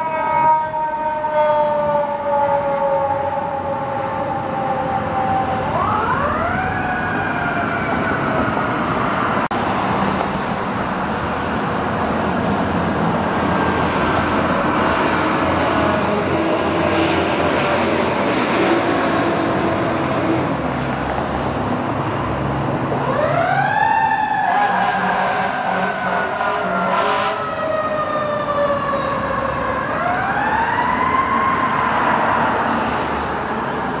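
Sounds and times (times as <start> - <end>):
fire truck engine and road noise: 0.0 - 34.0.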